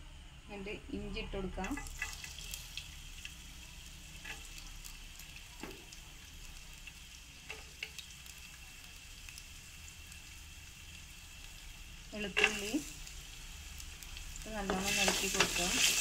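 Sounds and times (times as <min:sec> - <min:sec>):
ginger sizzling in oil: 0:01.4 - 0:16.0.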